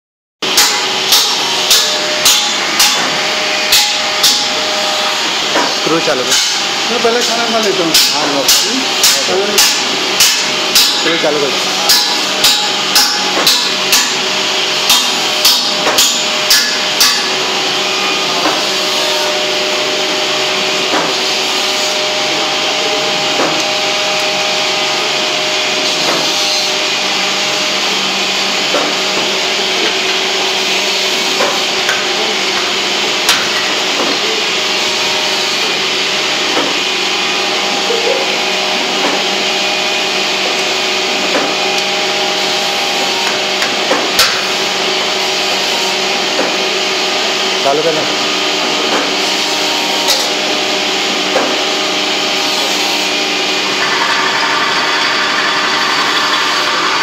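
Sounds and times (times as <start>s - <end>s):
filling machine motor whirring: 0.4s - 57.0s.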